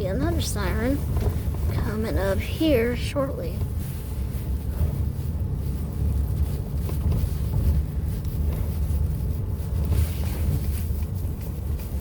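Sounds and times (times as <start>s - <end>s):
car driving rumble: 0.0s - 12.0s
wind noise on microphone: 0.0s - 12.0s.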